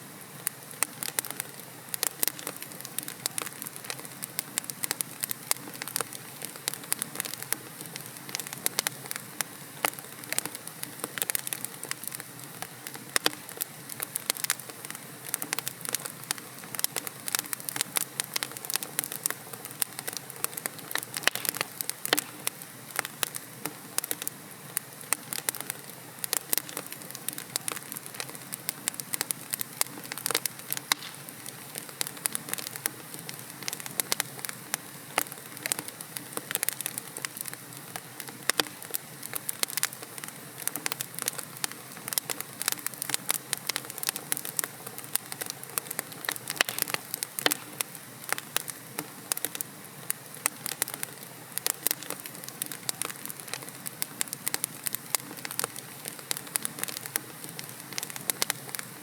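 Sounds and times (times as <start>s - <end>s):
logs crackling in fireplace: 0.2s - 59.0s.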